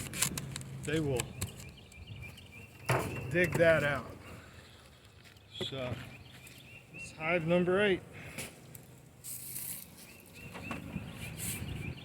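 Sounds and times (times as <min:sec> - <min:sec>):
bird chirping: 0:00.6 - 0:12.0.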